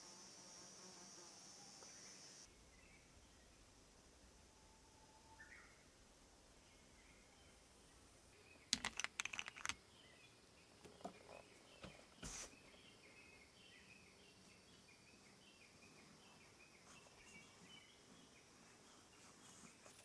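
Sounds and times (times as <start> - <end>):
faint chirping calls: 0.0 - 20.0.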